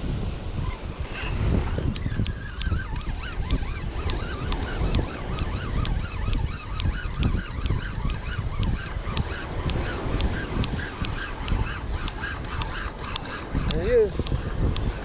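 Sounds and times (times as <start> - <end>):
wind buffeting microphone: 0.0 - 15.0
reel ticking: 1.8 - 15.0.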